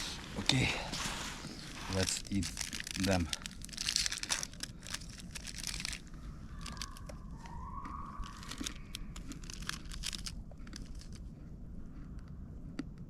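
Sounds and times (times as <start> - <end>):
plastic wrapper crinkling and tearing: 0.0 - 11.2.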